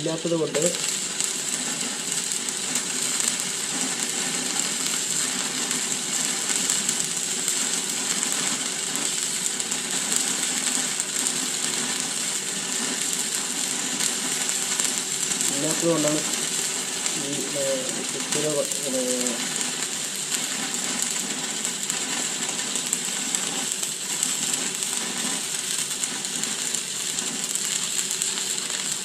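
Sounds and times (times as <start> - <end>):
welding arc crackling: 0.0 - 29.0.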